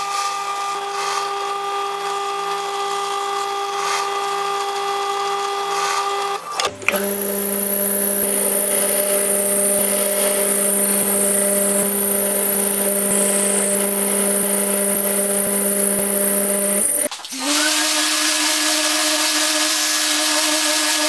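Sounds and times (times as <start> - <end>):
power tool running with hiss: 0.0 - 21.0.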